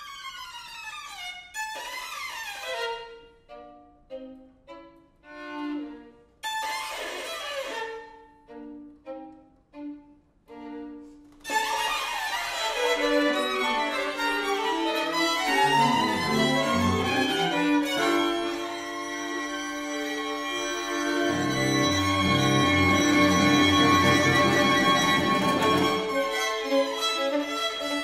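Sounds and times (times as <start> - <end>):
string quartet playing: 1.6 - 28.0.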